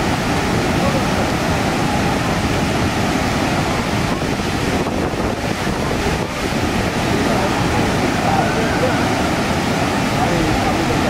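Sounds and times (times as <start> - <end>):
waterfall gushing over rocks: 0.0 - 11.0.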